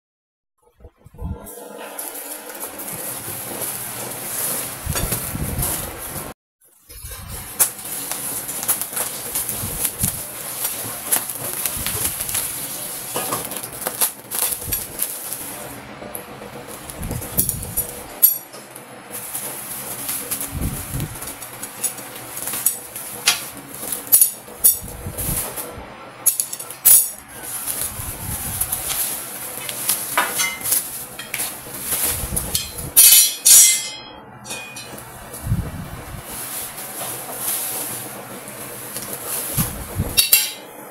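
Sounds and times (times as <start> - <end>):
bubble wrap and cardboard rustling: 1.9 - 18.1, 19.0 - 33.0, 34.9 - 40.2.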